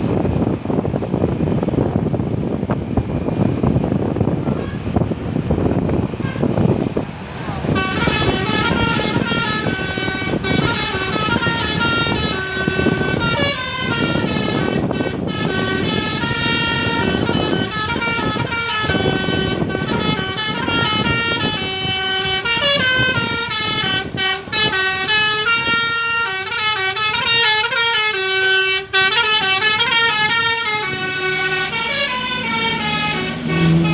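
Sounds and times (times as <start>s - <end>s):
multi-tone bus horn melody: 4.3s - 7.0s, 7.6s - 33.9s.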